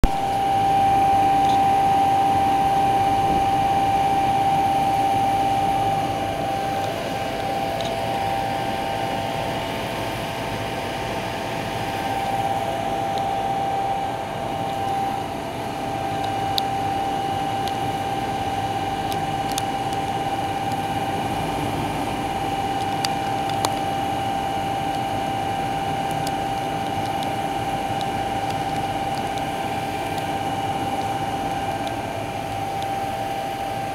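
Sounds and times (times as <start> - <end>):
fan motor whine: 0.0 - 33.9.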